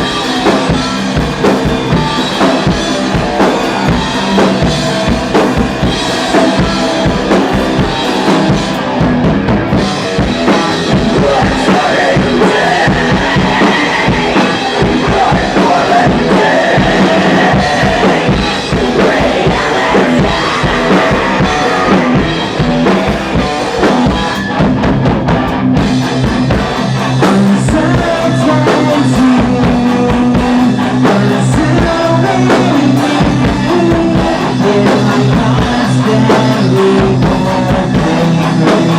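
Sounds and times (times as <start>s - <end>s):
drum kit hits: 0.0s - 38.9s
heavy metal band playing: 0.0s - 38.9s.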